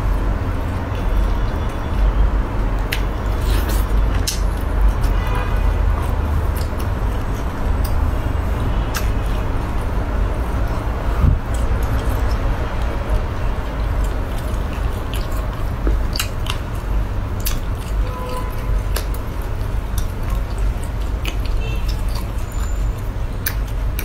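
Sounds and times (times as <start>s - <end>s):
steady low rumble: 0.0s - 24.0s
wet squishing of food: 0.0s - 24.0s
chewing: 0.6s - 5.2s, 5.9s - 24.0s.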